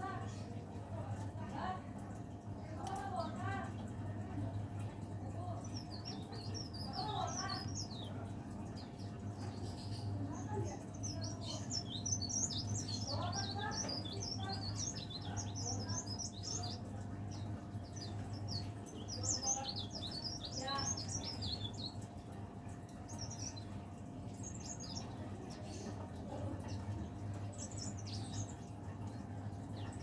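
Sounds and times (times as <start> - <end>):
bird twittering song: 0.0 - 30.0.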